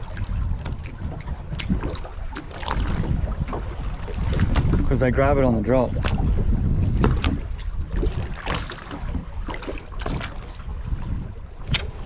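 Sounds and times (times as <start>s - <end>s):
water slapping boat hull: 0.0s - 12.0s
wind rumbling on microphone: 0.0s - 12.0s.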